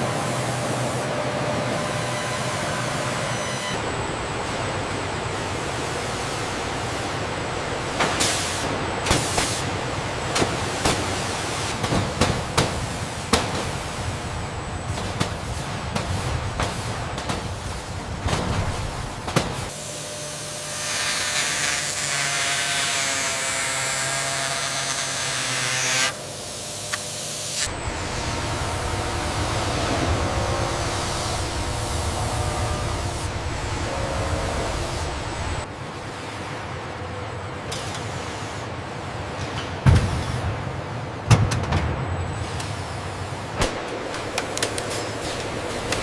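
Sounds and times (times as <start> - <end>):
industrial hum: 0.0 - 46.0.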